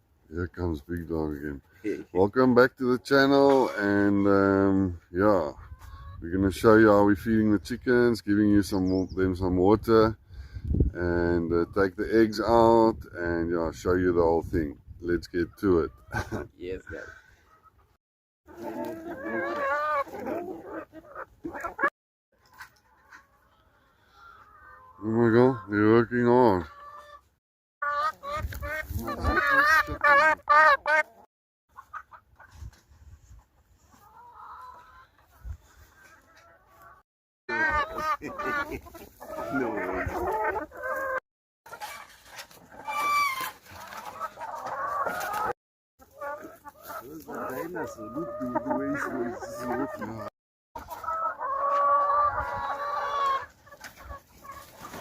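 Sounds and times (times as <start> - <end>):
chickens calling: 0.7 - 9.5, 15.2 - 55.0.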